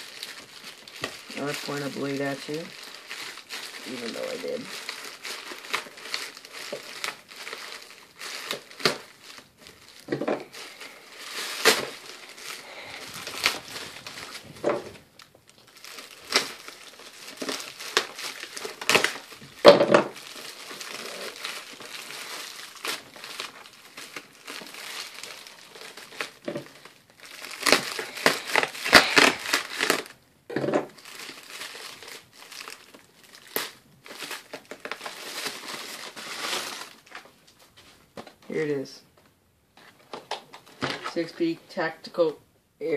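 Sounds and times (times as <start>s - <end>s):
plastic mailer crinkling and tearing: 0.0s - 30.2s, 30.8s - 38.8s.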